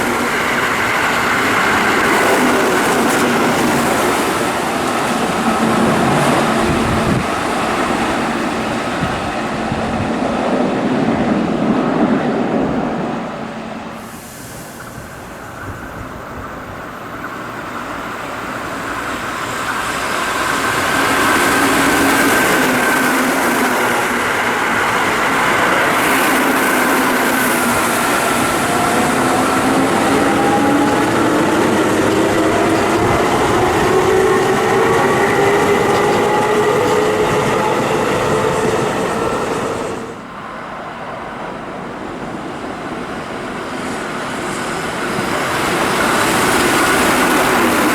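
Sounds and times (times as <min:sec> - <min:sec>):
electric train passing at speed: 0:00.0 - 0:47.9
train whine sliding in pitch: 0:00.0 - 0:47.9.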